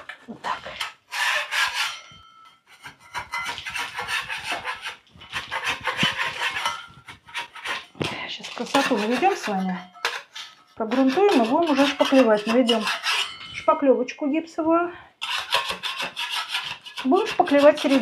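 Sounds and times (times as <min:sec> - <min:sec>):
putty knife scraping wall: 0:00.0 - 0:13.6, 0:15.2 - 0:18.0.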